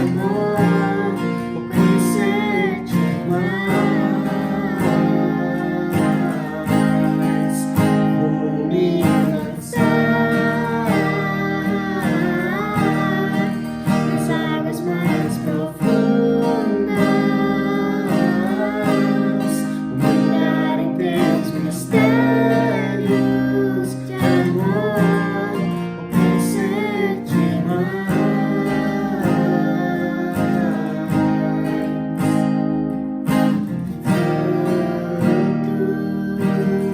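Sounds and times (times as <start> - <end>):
acoustic guitar playing: 0.0 - 36.9.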